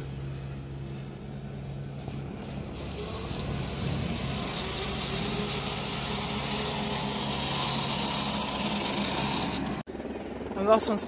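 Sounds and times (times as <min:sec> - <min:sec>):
pulley whirring along steel cable: 0:00.0 - 0:09.9.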